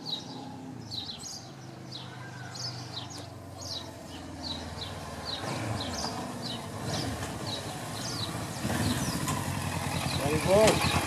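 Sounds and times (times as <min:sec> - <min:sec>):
small bird chirping: 0:00.0 - 0:09.4
motorcycle engine hum: 0:00.0 - 0:11.0.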